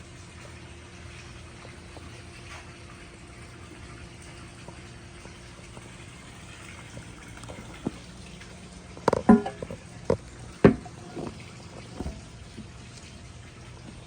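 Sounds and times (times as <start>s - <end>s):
toilet flushing and refilling: 0.0s - 14.0s.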